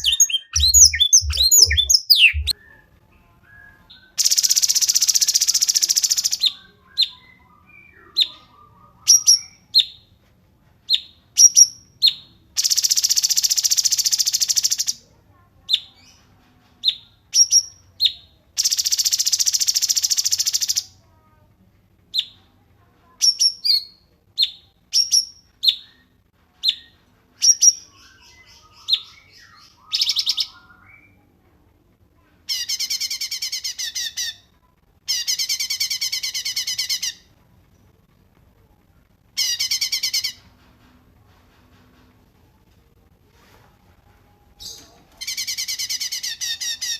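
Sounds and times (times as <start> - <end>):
songbird chirps and trills: 0.0 - 10.2, 10.9 - 38.0, 39.1 - 41.4, 44.1 - 46.9.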